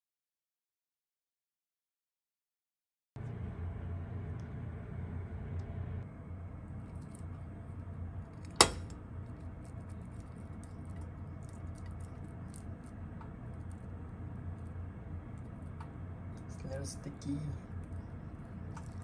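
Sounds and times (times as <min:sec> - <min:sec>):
steady low hum: 0:03.2 - 0:19.0.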